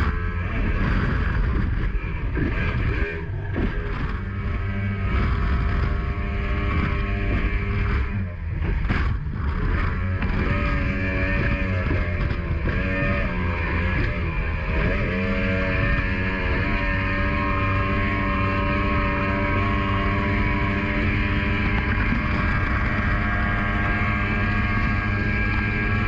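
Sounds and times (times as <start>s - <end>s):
outboard engine running hard: 0.0s - 26.0s.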